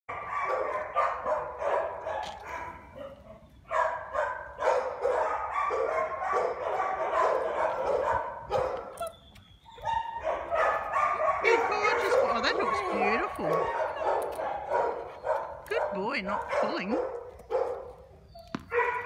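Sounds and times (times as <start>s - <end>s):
dogs barking and yelping: 0.1s - 19.0s.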